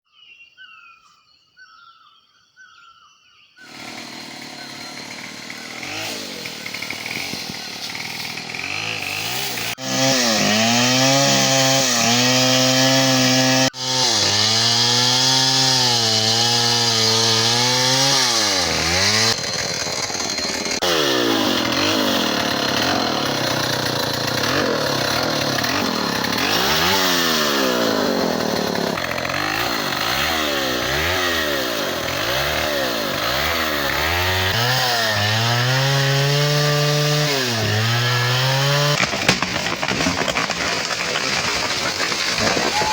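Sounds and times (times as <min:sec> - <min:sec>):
chainsaw cutting tree: 0:03.6 - 0:42.9.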